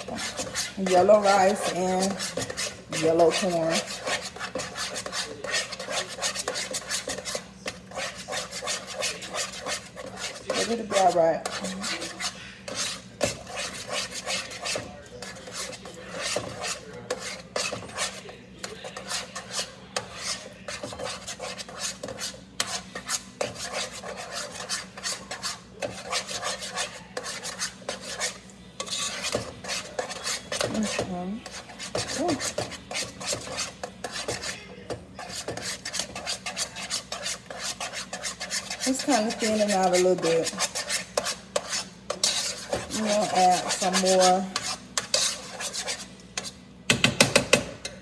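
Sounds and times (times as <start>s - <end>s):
utensil scraping mashed potatoes: 0.0s - 48.0s.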